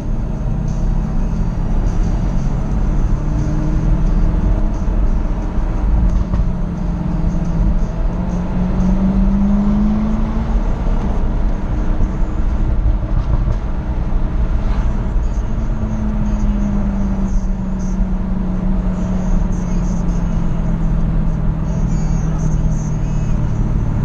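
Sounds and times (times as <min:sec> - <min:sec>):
car engine accelerating: 0:00.0 - 0:24.0
low road rumble: 0:00.0 - 0:24.0.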